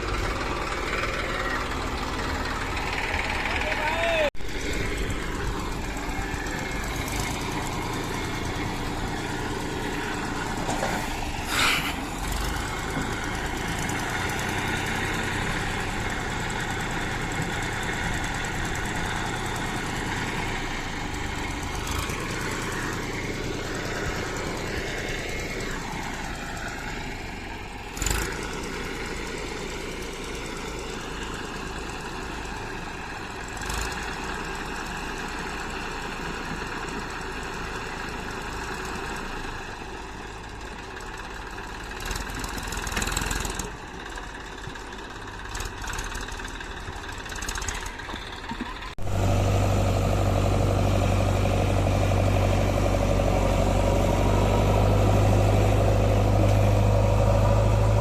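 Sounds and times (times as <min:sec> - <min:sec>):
heavy machinery engine idling: 0:00.0 - 0:58.0.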